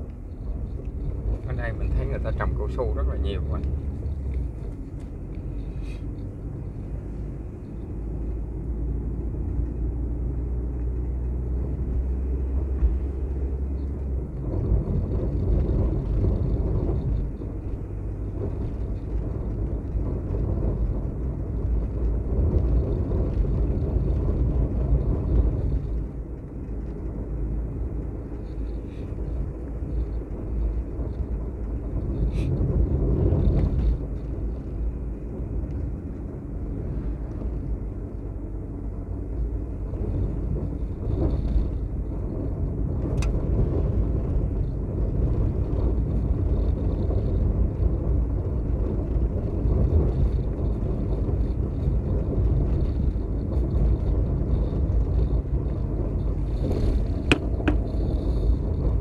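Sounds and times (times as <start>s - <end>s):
low engine hum: 0.0s - 59.0s
road and wind noise: 0.0s - 59.0s.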